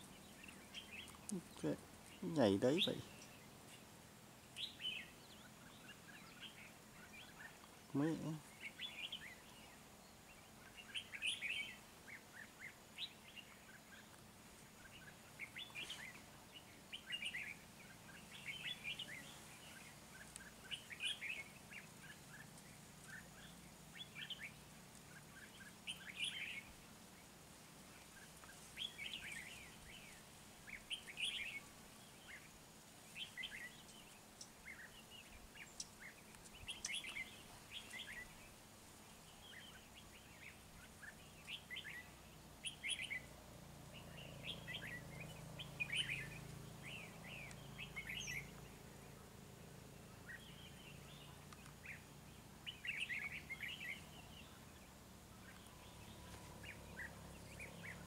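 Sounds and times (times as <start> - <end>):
birds chirping and warbling: 0.0 - 58.0.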